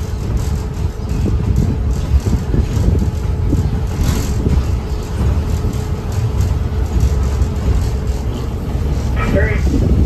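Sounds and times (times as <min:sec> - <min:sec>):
train rumble on board: 0:00.0 - 0:10.0.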